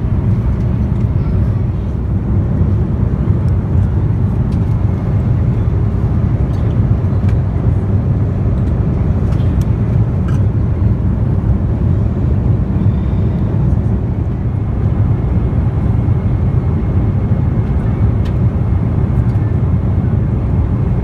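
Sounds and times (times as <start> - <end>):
aircraft engines rumbling: 0.0 - 21.0.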